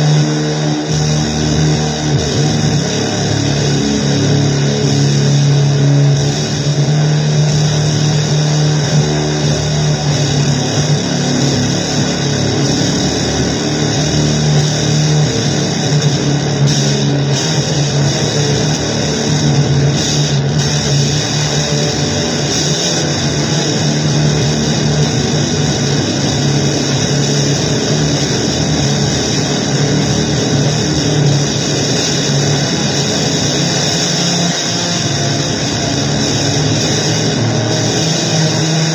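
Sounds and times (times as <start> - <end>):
distorted noise wall: 0.0 - 38.9
steady low drone: 0.0 - 38.9.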